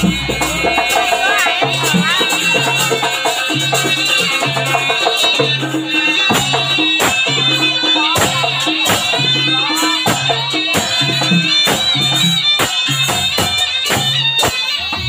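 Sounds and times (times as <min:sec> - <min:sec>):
sharp percussion strokes: 0:00.0 - 0:15.0.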